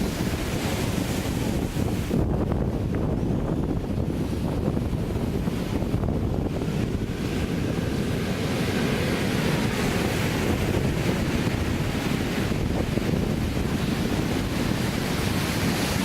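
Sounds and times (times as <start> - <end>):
sea waves breaking on beach: 0.0 - 16.0
wind buffeting microphone: 0.0 - 16.0.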